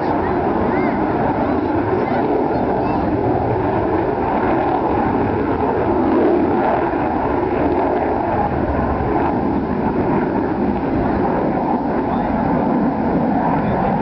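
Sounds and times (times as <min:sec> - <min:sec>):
jet engines in afterburner: 0:00.0 - 0:14.0.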